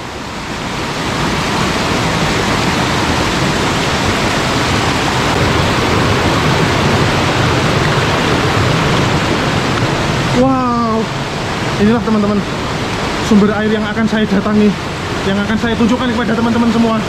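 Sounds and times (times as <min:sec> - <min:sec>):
spring water gushing: 0:00.0 - 0:17.0.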